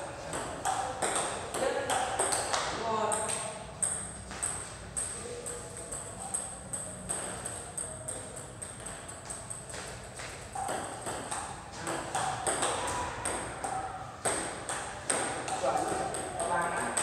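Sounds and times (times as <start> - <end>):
table tennis balls ticking: 0.2 - 17.0.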